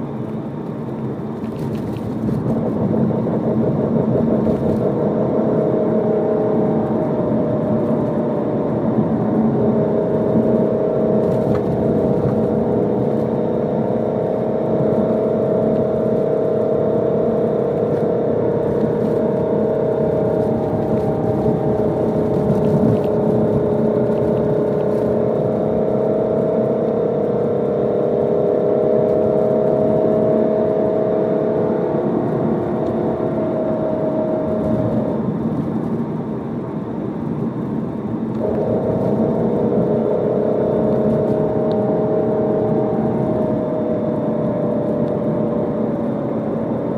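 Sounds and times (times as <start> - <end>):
car exhaust droning: 0.0 - 46.9.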